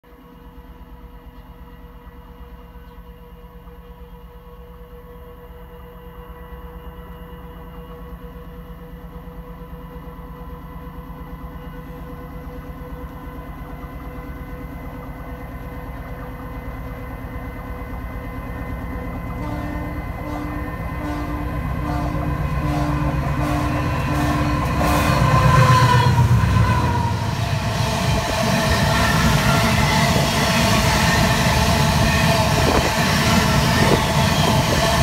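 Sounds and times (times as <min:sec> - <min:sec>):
diesel locomotive engine rumble: 0:00.0 - 0:35.0.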